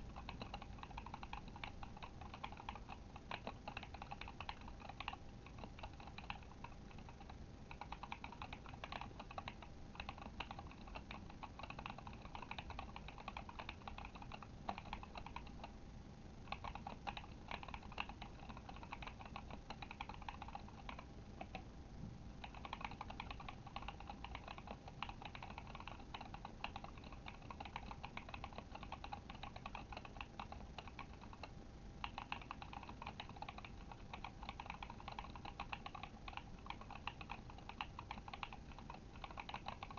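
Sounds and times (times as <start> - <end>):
mechanical keyboard typing: 0.0 - 15.7, 16.5 - 21.6, 22.4 - 39.9.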